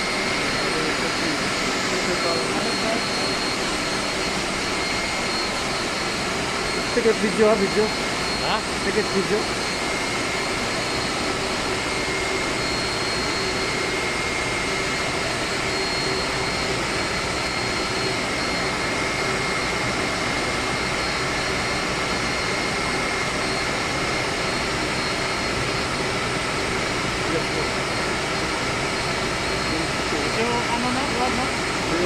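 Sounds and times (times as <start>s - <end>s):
air conditioning machinery drone: 0.0s - 32.0s
high whine: 0.0s - 32.0s.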